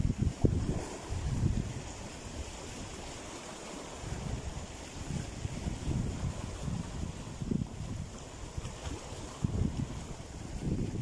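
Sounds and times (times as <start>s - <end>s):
small waves on rocky shore: 0.0s - 11.0s
wind rumbling on microphone: 0.0s - 11.0s.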